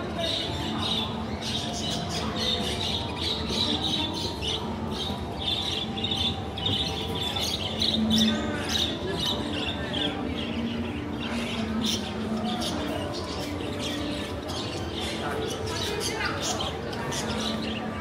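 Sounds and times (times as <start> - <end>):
caged birds chirping: 0.0 - 18.0.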